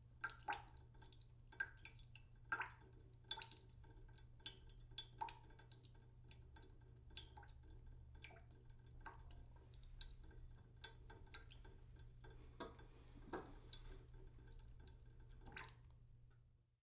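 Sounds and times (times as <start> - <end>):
water dripping into pot: 0.0 - 16.5.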